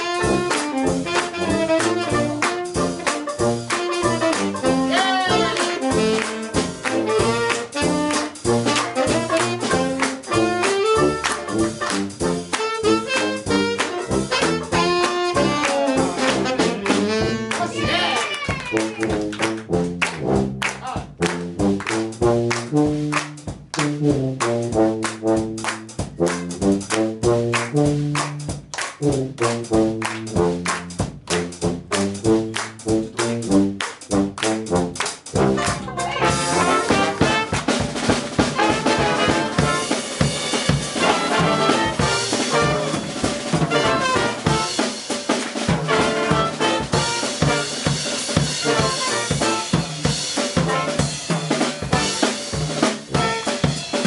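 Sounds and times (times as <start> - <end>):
low brass horn solo: 0.0 - 20.6, 21.2 - 28.4, 31.6 - 37.7, 38.5 - 44.8, 45.8 - 47.9, 48.5 - 51.2, 53.1 - 53.8
drums: 0.0 - 54.0
jazz band playing: 0.0 - 54.0.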